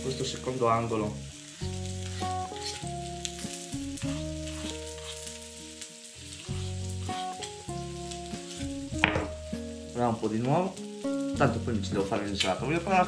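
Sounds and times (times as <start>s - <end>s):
background music of held chords: 0.0s - 13.0s
meat sizzling on grill: 0.0s - 13.0s.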